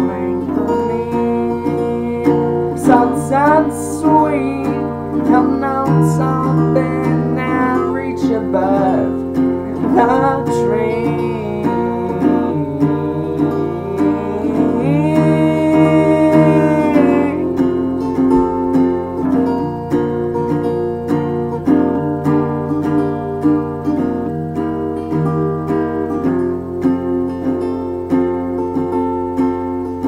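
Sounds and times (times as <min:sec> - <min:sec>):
guitar strumming: 0:00.0 - 0:30.0.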